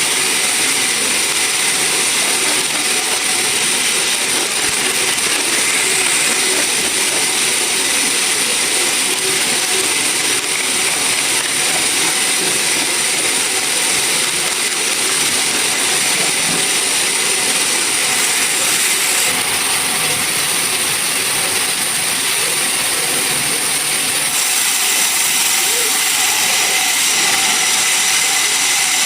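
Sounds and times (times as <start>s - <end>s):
sawmill machinery whining: 0.0s - 29.0s.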